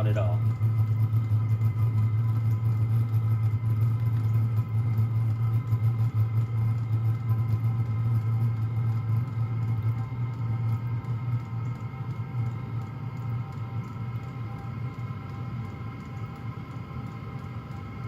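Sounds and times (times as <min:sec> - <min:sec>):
blower whine: 0:00.0 - 0:18.0
heater low hum: 0:00.0 - 0:18.0.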